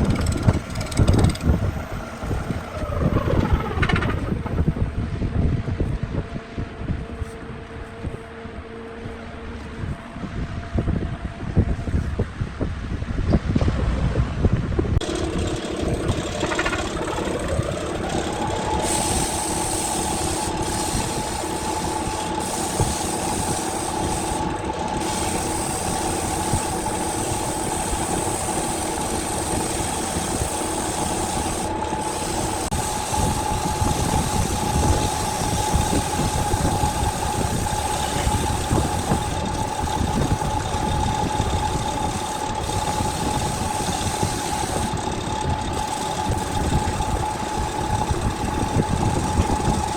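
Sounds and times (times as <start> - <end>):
lathe motor whine: 0.0 - 11.0, 15.0 - 49.9
constant rough noise: 0.0 - 49.9.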